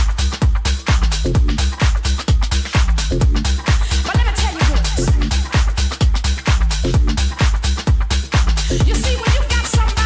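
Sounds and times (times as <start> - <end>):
electronic dance music: 0.0 - 10.0
kick drum beat: 0.0 - 10.0
sustained bass line: 0.0 - 10.0.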